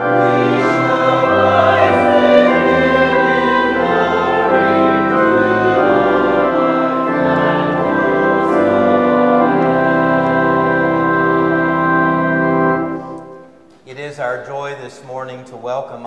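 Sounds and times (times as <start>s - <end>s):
church organ chords: 0.0s - 13.8s.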